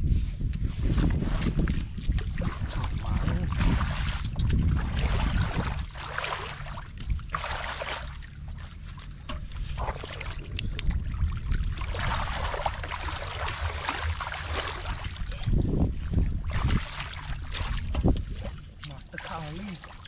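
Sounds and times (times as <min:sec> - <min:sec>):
wind rumble on microphone: 0:00.0 - 0:20.0
hands splashing in muddy water: 0:00.4 - 0:20.0.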